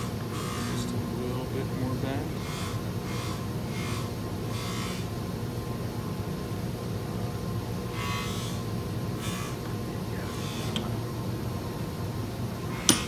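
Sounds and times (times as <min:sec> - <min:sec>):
small electric motor humming: 0:00.0 - 0:05.4, 0:07.7 - 0:13.0.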